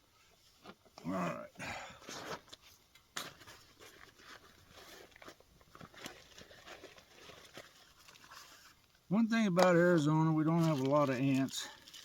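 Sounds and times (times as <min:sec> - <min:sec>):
rustling of objects handled: 0:02.0 - 0:12.0.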